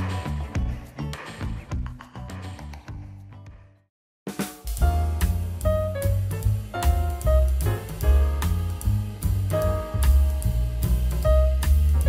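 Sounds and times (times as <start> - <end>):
background music with steady beat: 0.0 - 3.6, 4.3 - 12.0.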